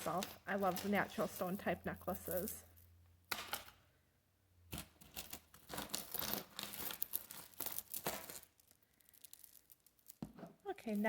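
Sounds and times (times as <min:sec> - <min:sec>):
jewelry rustling and clicking: 0:00.0 - 0:03.8, 0:04.7 - 0:11.0.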